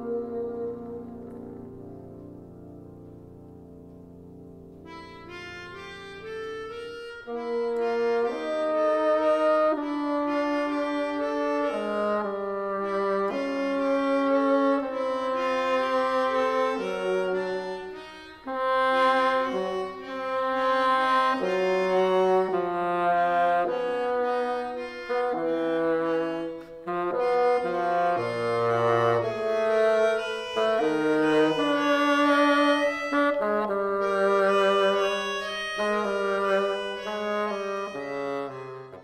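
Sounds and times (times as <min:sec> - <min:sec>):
bassoon melody: 0:00.0 - 0:39.0
piano accompaniment: 0:00.0 - 0:39.0.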